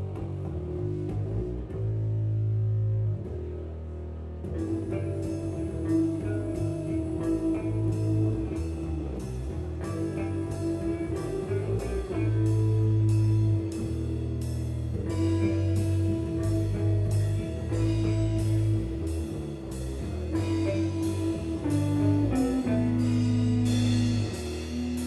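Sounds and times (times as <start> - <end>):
rock band playing live: 4.5 - 25.0.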